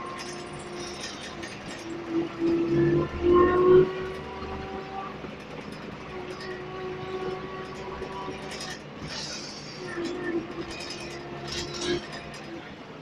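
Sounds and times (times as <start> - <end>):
bus engine whining: 0.0 - 13.0.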